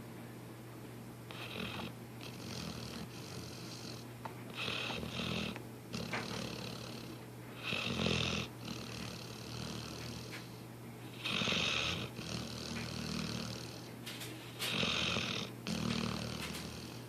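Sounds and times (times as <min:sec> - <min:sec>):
dog breathing: 0:01.3 - 0:17.0
dog snoring: 0:01.3 - 0:17.0.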